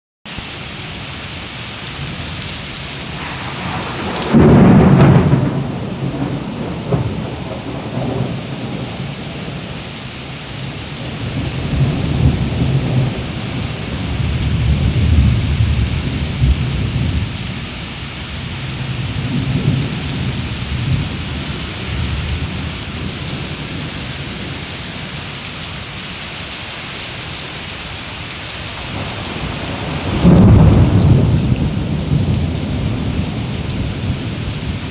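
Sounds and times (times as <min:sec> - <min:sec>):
heavy rain falling: 0:00.3 - 0:34.9
low rumbles of thunder: 0:02.8 - 0:25.3, 0:28.6 - 0:34.9
loud thunderclap: 0:02.9 - 0:24.6, 0:28.6 - 0:34.9.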